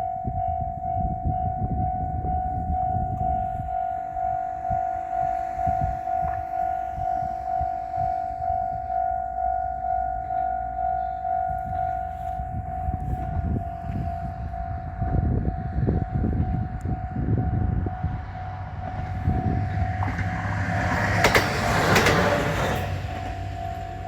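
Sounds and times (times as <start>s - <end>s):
level crossing warning bell: 0.0s - 24.0s
train wheels rumbling and knocking: 2.1s - 24.0s.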